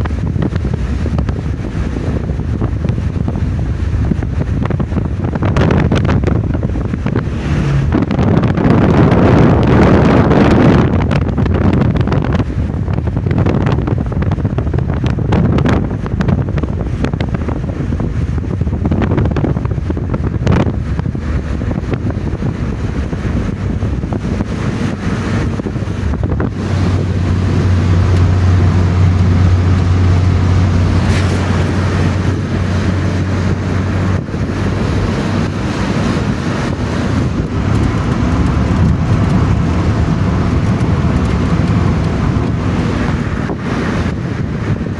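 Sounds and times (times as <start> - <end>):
river water roaring: 0.0 - 44.9
wind buffeting microphone: 0.0 - 44.9.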